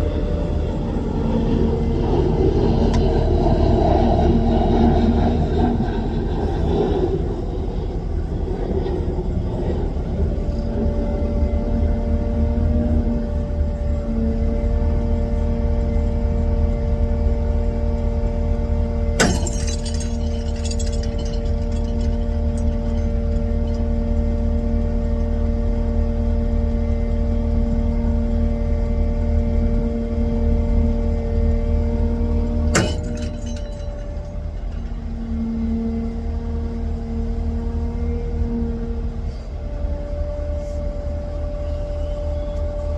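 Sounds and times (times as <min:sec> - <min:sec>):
diesel machinery engine rumbling: 0:00.0 - 0:42.9.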